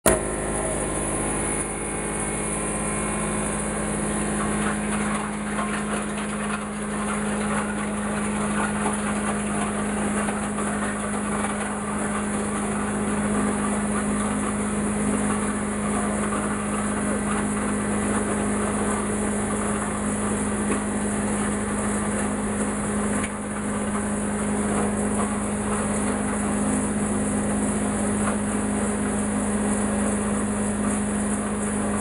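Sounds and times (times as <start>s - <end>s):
wood shredder running: 0.0s - 32.0s.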